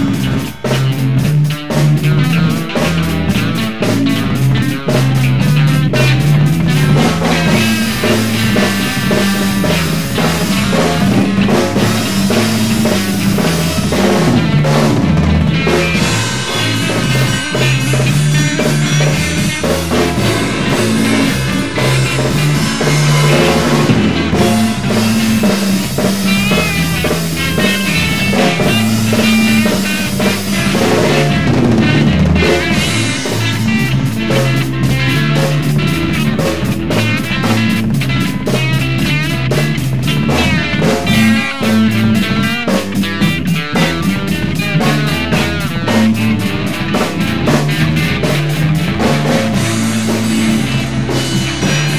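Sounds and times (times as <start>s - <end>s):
blues guitar: 0.0s - 51.9s
drum kit beat: 0.0s - 51.9s
low bass line: 0.0s - 51.9s.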